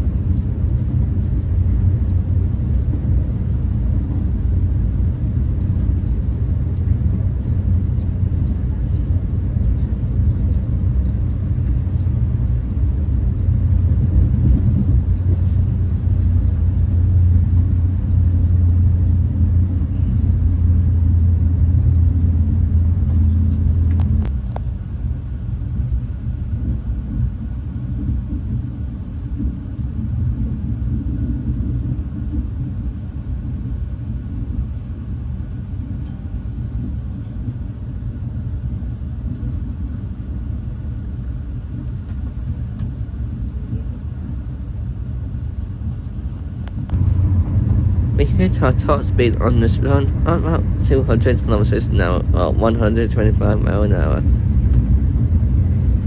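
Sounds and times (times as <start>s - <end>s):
high-speed train rumble: 0.0s - 56.0s.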